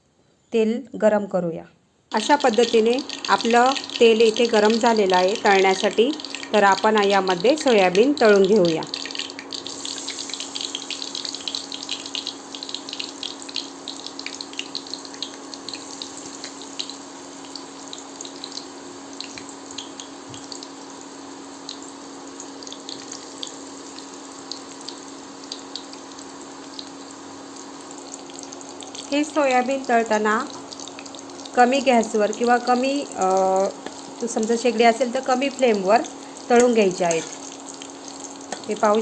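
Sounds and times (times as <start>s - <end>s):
crackles and pops of frying: 2.1s - 39.0s
food sizzling in hot oil: 2.1s - 39.0s.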